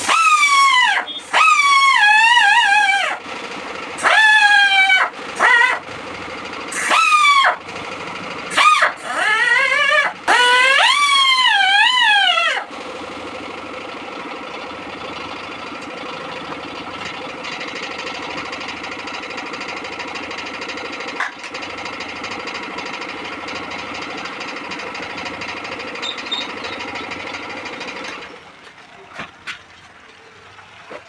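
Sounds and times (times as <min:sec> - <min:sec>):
power buffing tool rattling: 0:00.0 - 0:13.9, 0:15.8 - 0:28.4.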